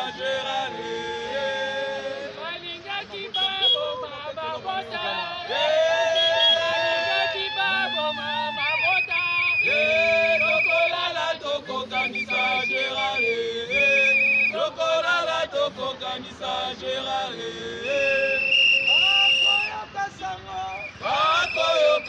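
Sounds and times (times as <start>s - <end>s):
crowd chanting and singing: 0.0s - 22.0s.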